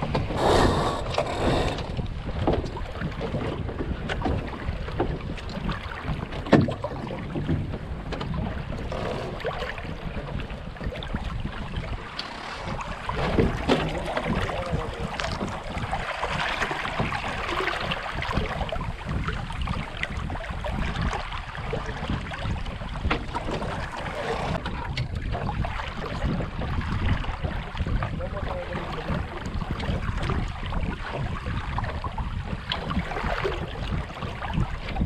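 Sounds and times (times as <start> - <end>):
water rushing along hull: 0.0 - 35.0
wind buffeting microphone: 0.0 - 35.0.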